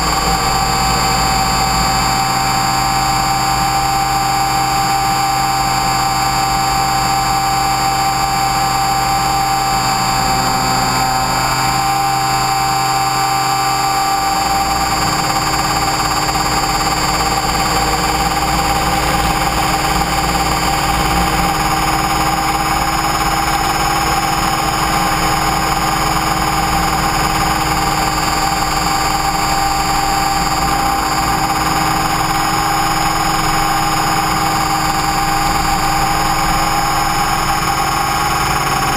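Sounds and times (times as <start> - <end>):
rc helicopter whine: 0.0 - 38.9.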